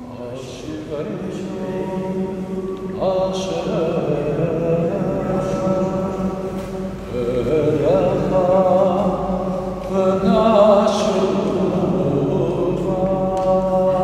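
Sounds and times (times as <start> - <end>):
person chanting: 0.0 - 14.0.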